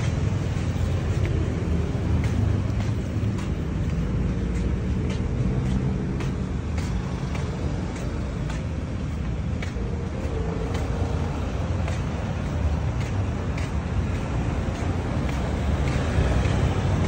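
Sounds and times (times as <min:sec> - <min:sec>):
faint footsteps on pavement: 0:00.0 - 0:17.0
traffic engines rumbling: 0:00.0 - 0:17.0.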